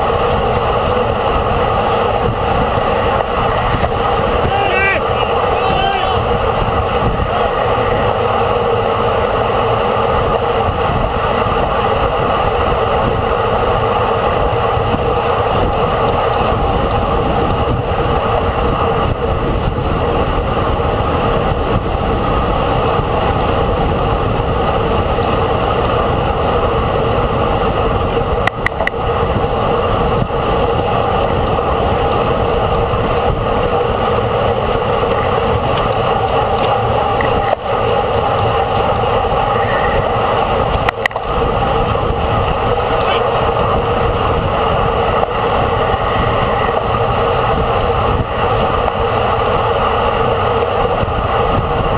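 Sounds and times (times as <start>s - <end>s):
bicycle road noise: 0.0s - 51.9s
rushing wind: 0.0s - 51.9s.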